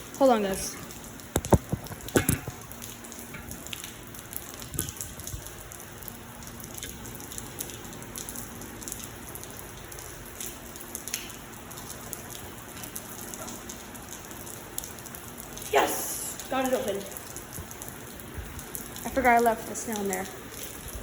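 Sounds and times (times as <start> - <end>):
heavy rain pouring: 0.0 - 21.0
raindrops tapping: 0.0 - 21.0.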